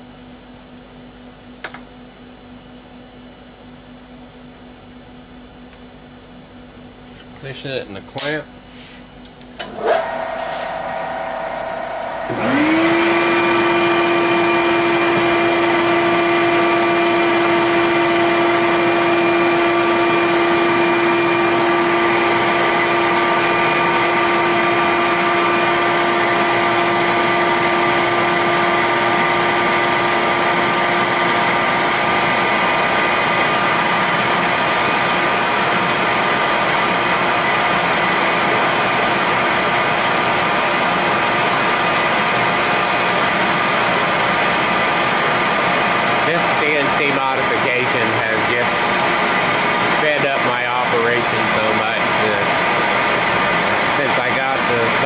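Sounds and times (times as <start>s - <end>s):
milling machine motor whine: 9.4s - 55.0s.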